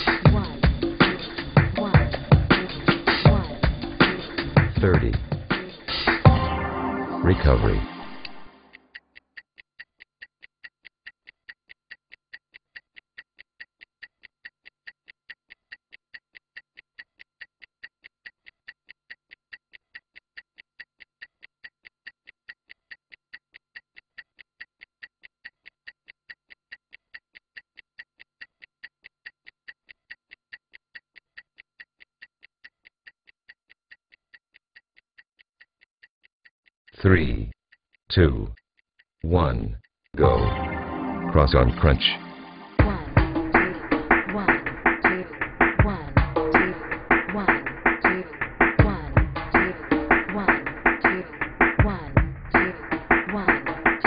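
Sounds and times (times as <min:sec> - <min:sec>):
stopwatch ticking: 0:00.0 - 0:06.3, 0:08.7 - 0:40.4, 0:42.8 - 0:54.0.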